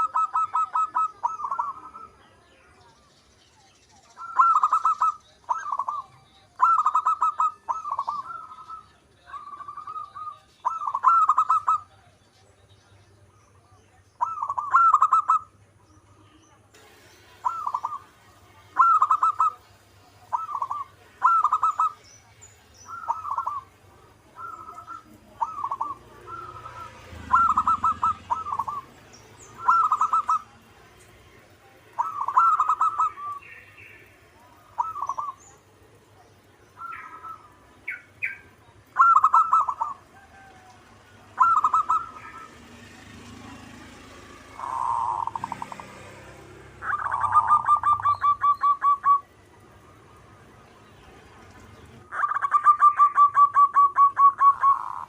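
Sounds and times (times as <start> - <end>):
dove cooing: 0.0 - 2.2, 4.2 - 12.1, 14.2 - 15.5, 17.3 - 22.1, 22.8 - 50.3, 52.0 - 55.0.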